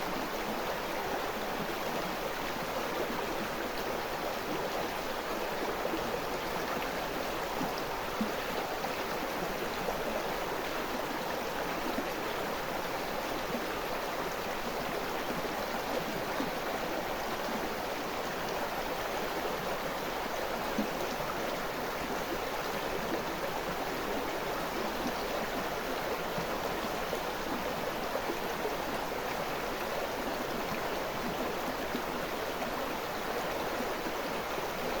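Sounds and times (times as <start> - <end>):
river water flowing over rocks: 0.0 - 35.0.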